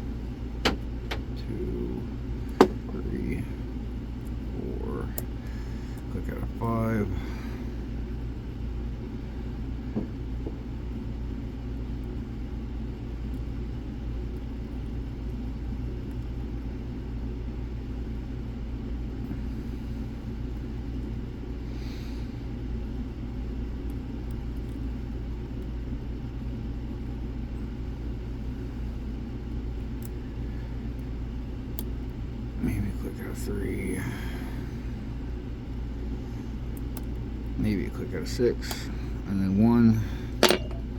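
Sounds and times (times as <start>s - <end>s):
low background rumble: 0.0s - 40.9s.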